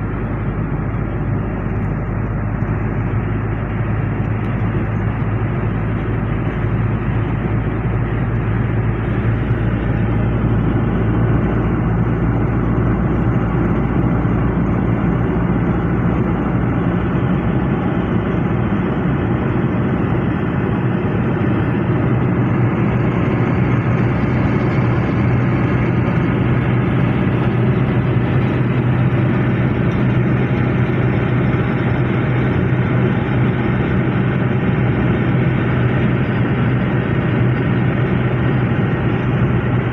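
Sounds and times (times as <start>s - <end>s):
engine hum: 0.0s - 39.9s
tyre and road noise: 0.0s - 39.9s.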